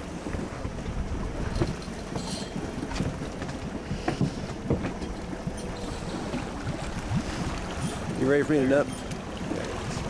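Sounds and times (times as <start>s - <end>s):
water slapping boat hull: 0.0s - 10.0s
wind buffeting microphone: 0.0s - 10.0s.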